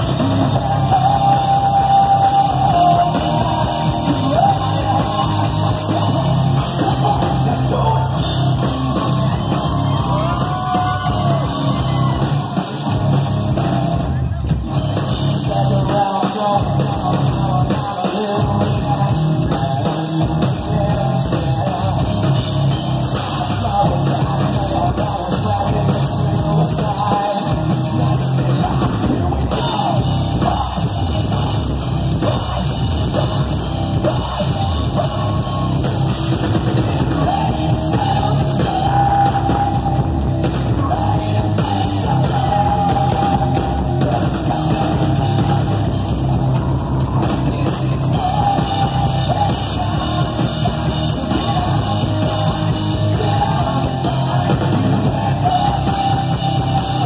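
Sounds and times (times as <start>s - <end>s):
man singing: 0.0s - 13.1s, 14.1s - 57.0s
bass guitar: 0.0s - 57.0s
drum kit: 0.0s - 57.0s
electric guitar: 0.0s - 57.0s.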